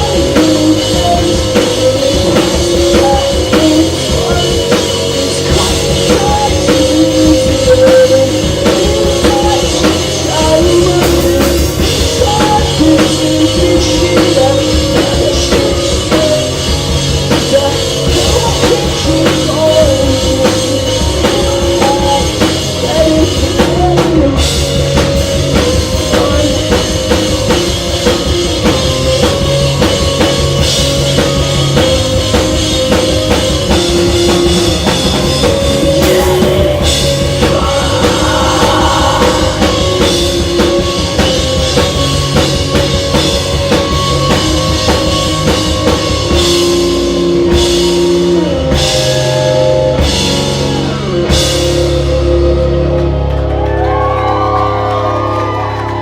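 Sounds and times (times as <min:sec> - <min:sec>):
person singing: 0:00.0 - 0:49.2
drum kit beat: 0:00.0 - 0:56.0
rock band playing live: 0:00.0 - 0:56.0.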